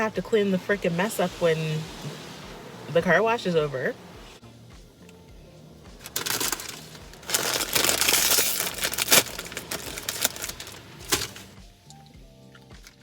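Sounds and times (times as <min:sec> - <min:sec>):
car wash spraying and scrubbing: 0:00.0 - 0:05.0, 0:05.7 - 0:11.6.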